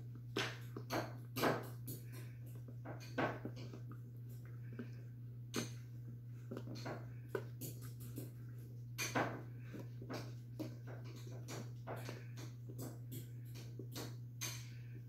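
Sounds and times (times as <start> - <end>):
puppy chewing crinkly toy: 0.0 - 15.0.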